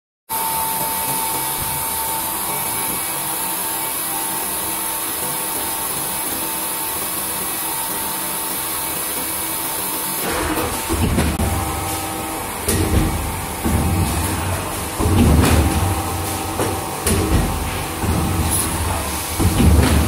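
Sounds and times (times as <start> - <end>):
machine whirring and whining: 0.3 - 20.0.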